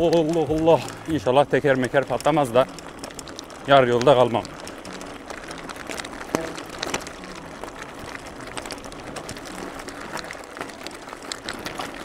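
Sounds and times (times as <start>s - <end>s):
bike tyres rushing on dirt: 0.0s - 12.0s.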